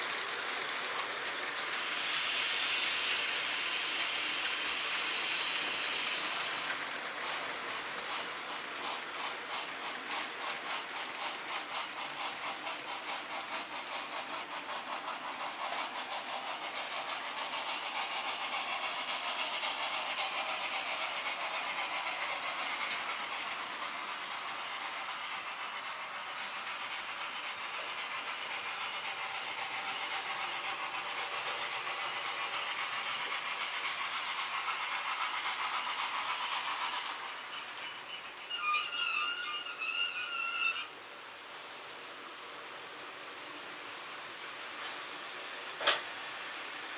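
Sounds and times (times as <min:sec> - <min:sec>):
model trains rolling on track: 0:00.0 - 0:46.9.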